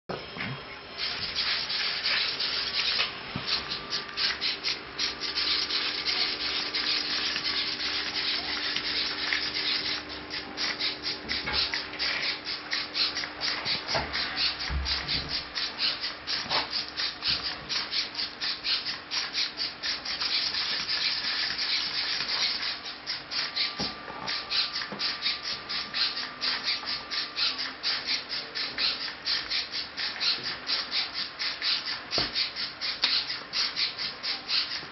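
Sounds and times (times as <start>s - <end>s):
servos whirring: 0.8s - 34.9s.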